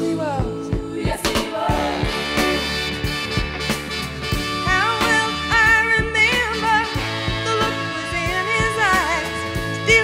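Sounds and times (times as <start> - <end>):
song with drum beat: 0.0 - 10.0.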